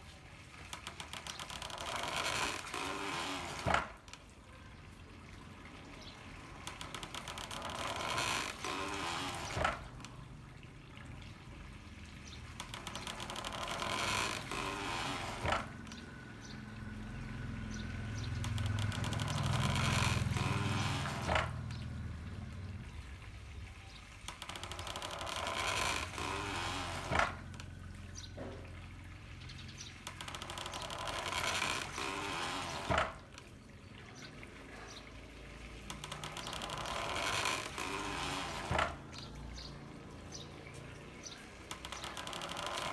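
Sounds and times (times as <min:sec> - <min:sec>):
water mill knocking: 0:00.0 - 0:42.9
water pouring and splashing: 0:00.0 - 0:42.9.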